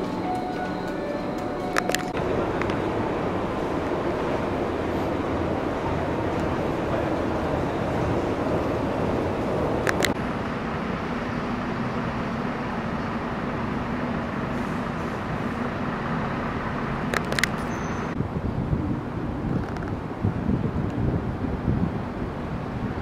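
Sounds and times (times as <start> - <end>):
street background hum: 0.0 - 23.0.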